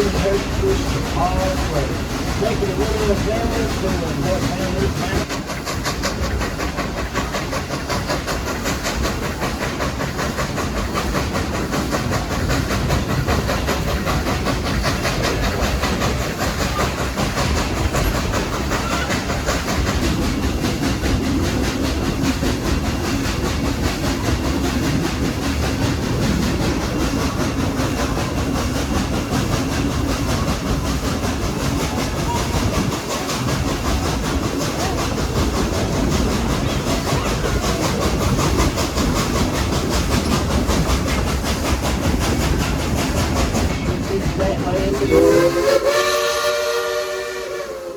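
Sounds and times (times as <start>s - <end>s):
train cars rumbling on track: 0.0s - 47.9s.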